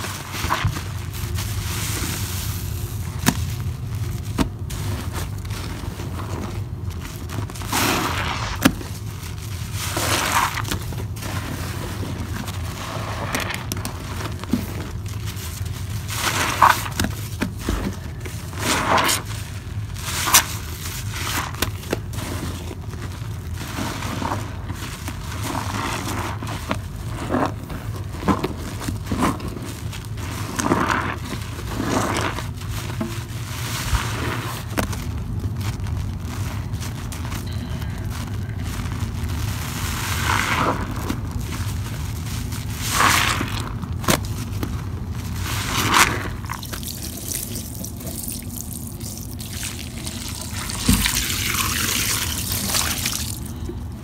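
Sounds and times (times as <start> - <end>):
steady low hum: 0.0 - 54.0
wet sponge squelching: 0.0 - 54.0.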